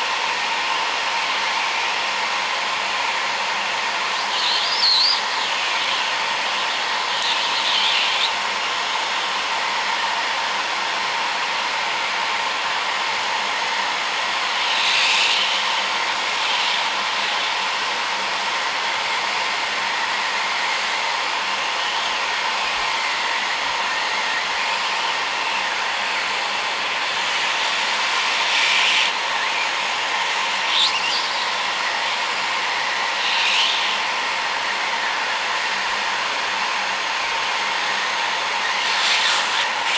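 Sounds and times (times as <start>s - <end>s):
heat gun blowing air: 0.0s - 39.9s.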